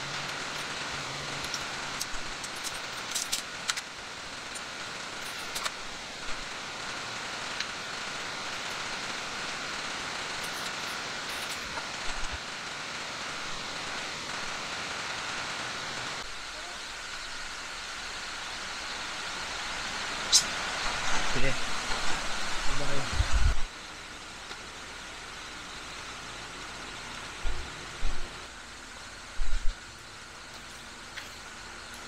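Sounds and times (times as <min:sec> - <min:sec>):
rainforest background hiss: 0:00.0 - 0:32.0.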